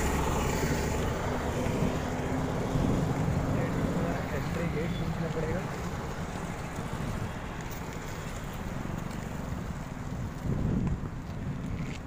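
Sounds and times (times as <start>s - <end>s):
wind rumbling on microphone: 0.0s - 4.8s, 5.6s - 12.0s
road traffic: 0.0s - 12.0s.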